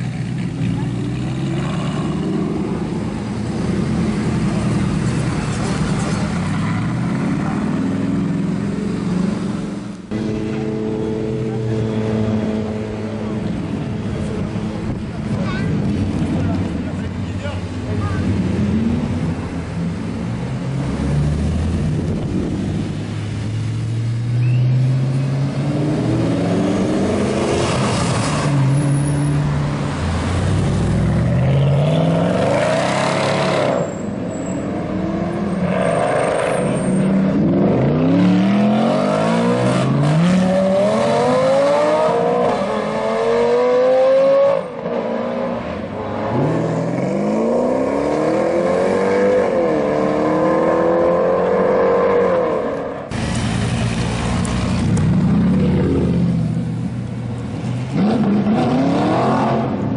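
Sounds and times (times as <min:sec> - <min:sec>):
car engines accelerating hard: 0:00.0 - 0:59.9.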